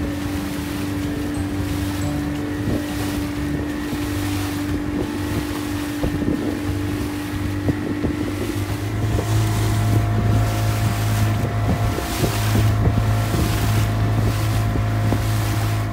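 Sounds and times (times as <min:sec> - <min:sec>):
boat engine running: 0:00.0 - 0:15.9
water splashing off hull: 0:00.0 - 0:15.9
wind buffeting microphone: 0:00.0 - 0:15.9.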